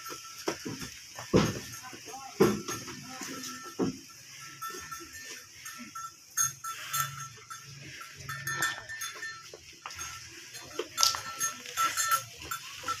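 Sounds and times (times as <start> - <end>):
cattle hooves on dirt: 0.0 - 13.0.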